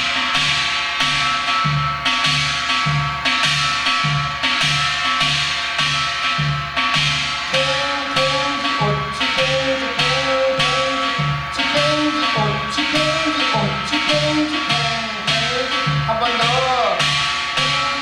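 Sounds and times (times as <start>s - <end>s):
drum strokes: 0.0s - 18.0s
steady ringing tones: 0.0s - 18.0s.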